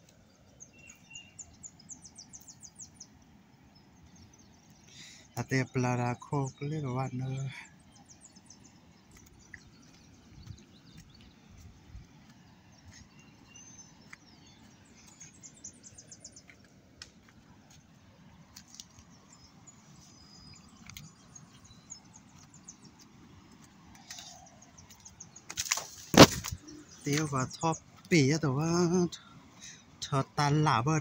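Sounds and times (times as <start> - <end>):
faint birdsong trills: 0.0 - 31.0.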